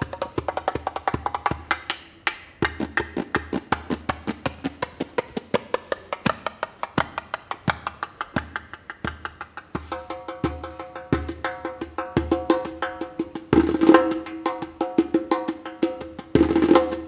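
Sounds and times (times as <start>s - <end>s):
djembe hand drumming: 0.0s - 17.0s.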